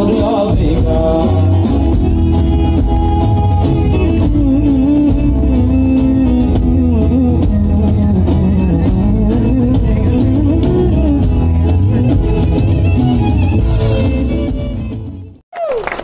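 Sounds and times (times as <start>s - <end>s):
steady drum beat: 0.0s - 15.1s
live folk band playing: 0.0s - 15.4s.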